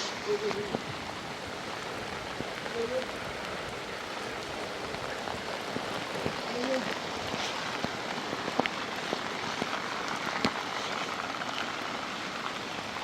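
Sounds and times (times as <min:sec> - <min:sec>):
rain falling: 0:00.0 - 0:13.0
raindrops striking close by: 0:00.0 - 0:13.0.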